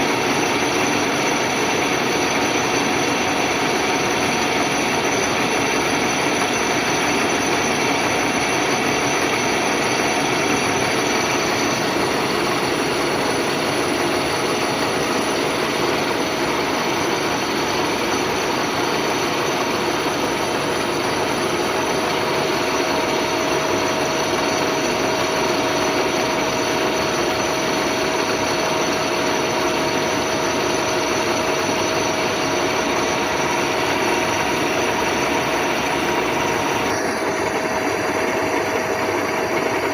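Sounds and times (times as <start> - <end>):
machine whining tones: 0.0 - 39.9
milling machine humming: 0.0 - 39.9.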